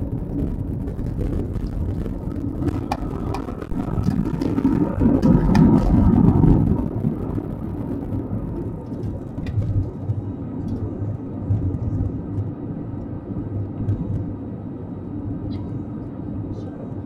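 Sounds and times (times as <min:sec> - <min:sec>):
airliner engine drone: 0:00.0 - 0:17.0.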